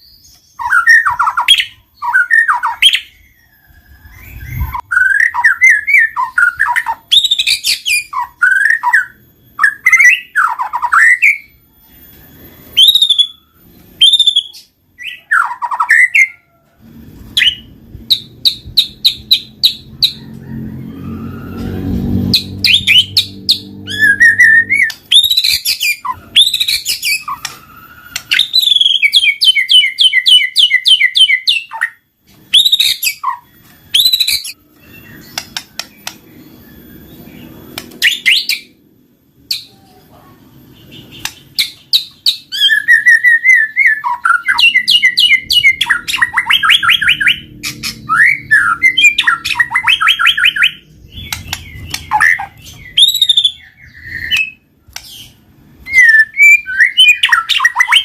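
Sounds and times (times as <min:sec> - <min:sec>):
bird singing whistled song: 0:00.0 - 0:16.4, 0:22.2 - 0:38.7, 0:40.8 - 0:58.0.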